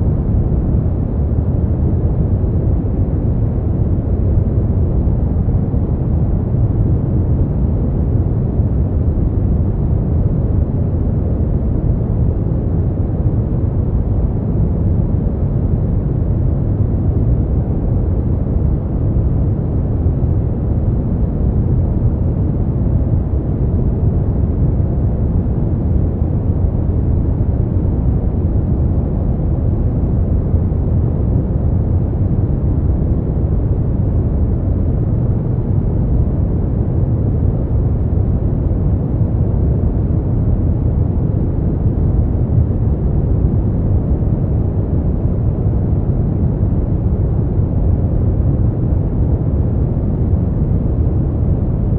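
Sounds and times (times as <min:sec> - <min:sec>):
brown noise low hiss: 0:00.0 - 0:51.9.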